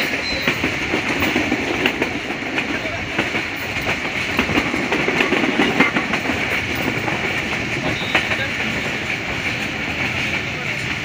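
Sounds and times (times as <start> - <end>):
train wheels rushing on track: 0.0 - 11.0
wheels clicking over rail joints: 0.0 - 11.0.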